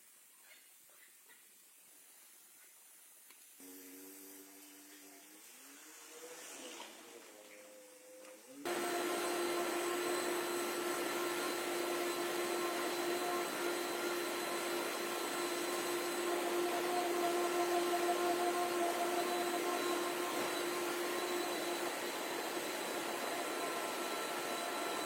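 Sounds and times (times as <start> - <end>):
motor blower whining: 3.6 - 25.0.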